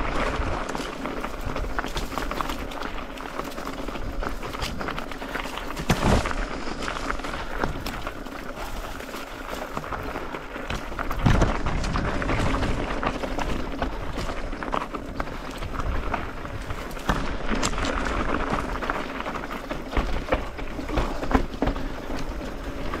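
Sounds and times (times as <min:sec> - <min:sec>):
bike knocking over rocks: 0:00.0 - 0:23.0
bike rattling: 0:00.0 - 0:23.0
tyres crunching on stones: 0:00.0 - 0:23.0.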